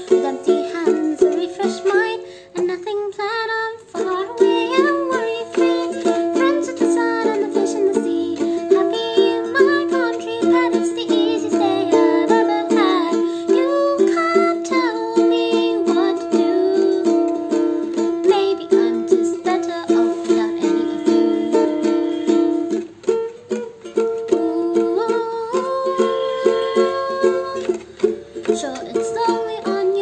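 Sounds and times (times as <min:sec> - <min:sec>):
woman singing: 0:00.0 - 0:22.8, 0:24.1 - 0:30.0
ukulele strumming: 0:00.0 - 0:30.0.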